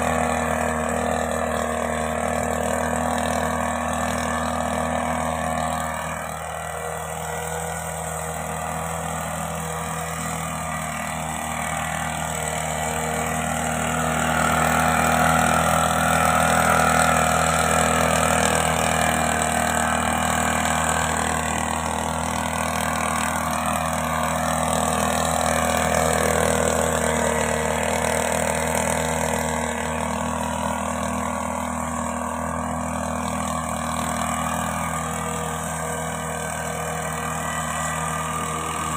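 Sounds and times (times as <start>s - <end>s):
mist blower engine running: 0.0s - 38.9s.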